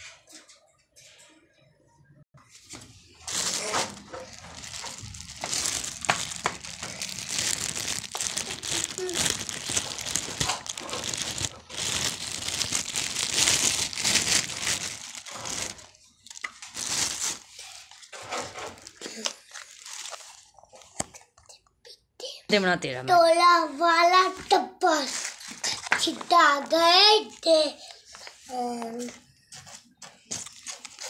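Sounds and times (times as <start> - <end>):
crinkling and rustling: 2.4 - 21.6, 24.2 - 31.0.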